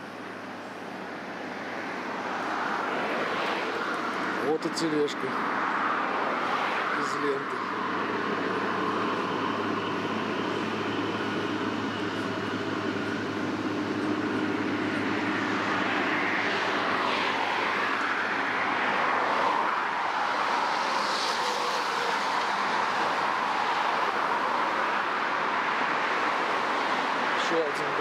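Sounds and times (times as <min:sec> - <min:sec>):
road traffic: 0:00.0 - 0:28.0
vehicles passing: 0:00.0 - 0:28.0.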